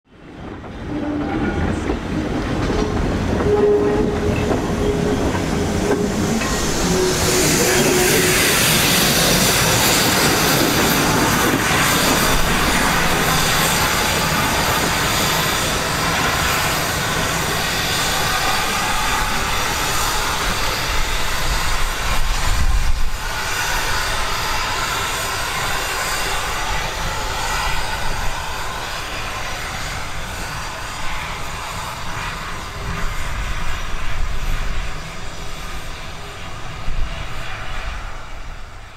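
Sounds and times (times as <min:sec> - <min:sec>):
steam locomotive rumble: 0:00.1 - 0:38.9
steam hiss: 0:03.1 - 0:38.9.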